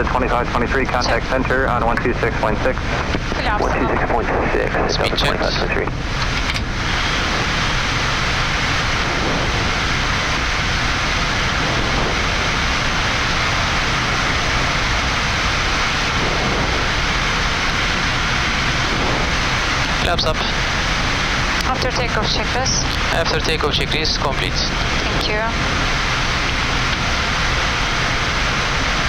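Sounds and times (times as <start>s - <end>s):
cockpit airflow noise: 0.0s - 29.0s
jet engine noise: 0.0s - 29.0s.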